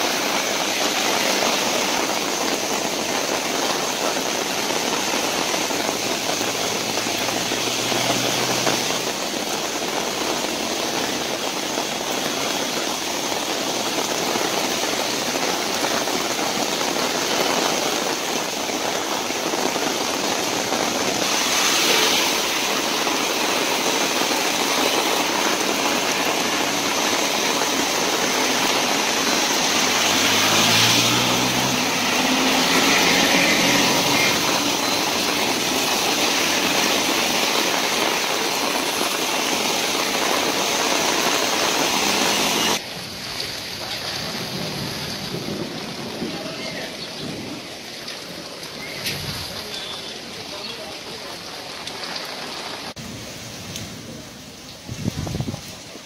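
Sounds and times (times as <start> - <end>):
bus passing on wet road: 0.0 - 56.0
heavy rain falling: 0.0 - 56.0.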